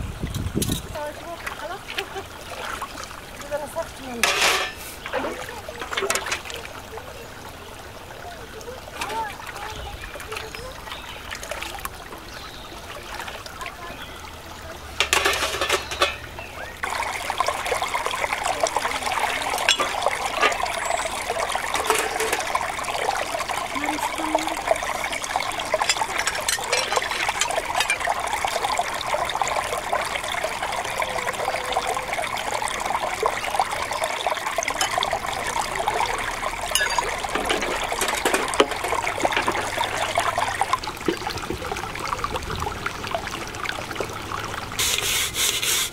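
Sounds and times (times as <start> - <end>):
stream babbling over rocks: 0.0 - 45.8.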